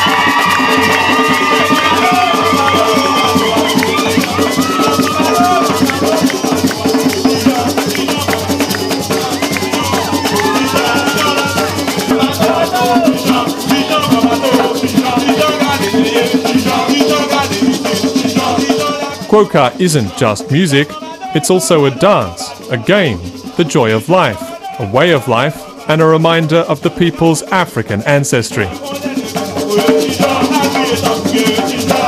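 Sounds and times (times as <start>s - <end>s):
hand drums: 0.0s - 32.0s
shaker rattling fast: 0.0s - 32.0s
voices singing: 0.0s - 32.0s.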